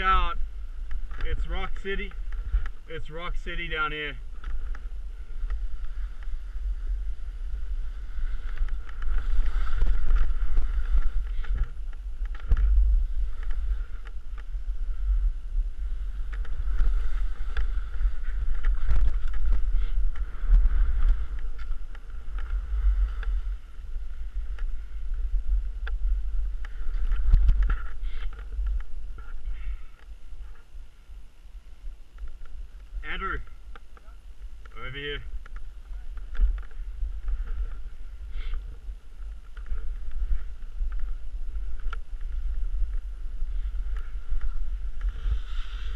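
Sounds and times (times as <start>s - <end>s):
skis scraping over snow: 0.0s - 29.8s, 34.7s - 45.9s
wind buffeting microphone: 0.0s - 31.3s, 31.9s - 45.9s.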